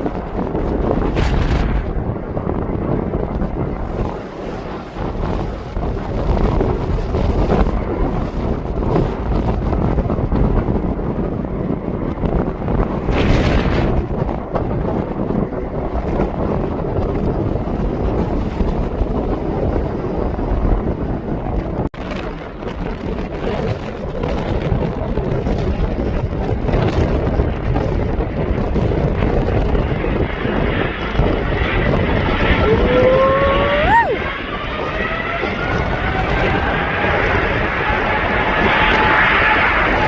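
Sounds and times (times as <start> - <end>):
aircraft engines rumbling: 0.0 - 40.0
wind buffeting microphone: 0.0 - 40.0.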